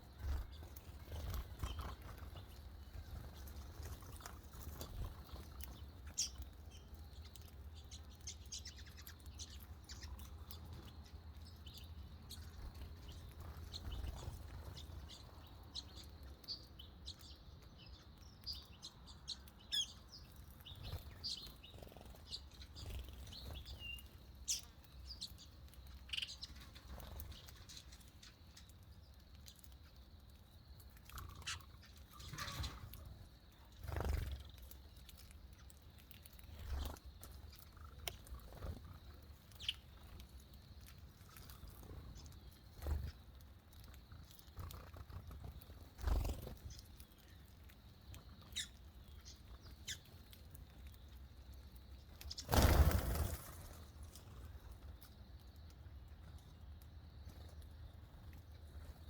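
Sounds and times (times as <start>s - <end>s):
birds chirping: 0.0s - 30.1s, 31.0s - 40.2s, 40.8s - 51.0s, 51.9s - 59.0s.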